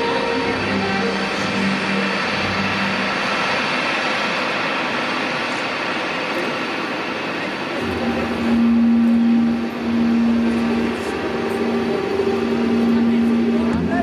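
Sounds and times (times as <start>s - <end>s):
low hum: 0.0s - 14.0s
rushing airy noise: 0.0s - 14.0s.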